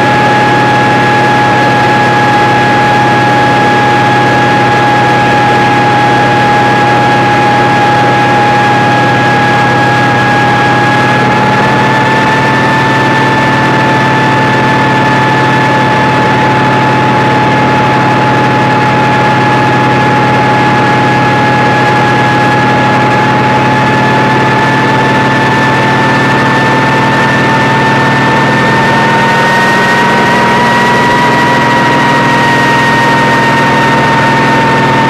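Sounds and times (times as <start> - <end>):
helicopter engine drone: 0.0 - 35.0
high whine: 0.0 - 35.0.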